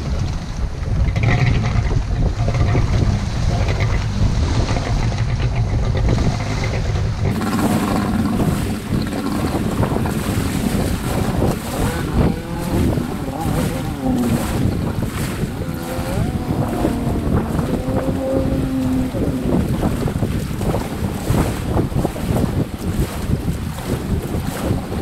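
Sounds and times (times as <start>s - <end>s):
personal watercraft engine: 0.0s - 25.0s
wind buffeting microphone: 0.0s - 25.0s.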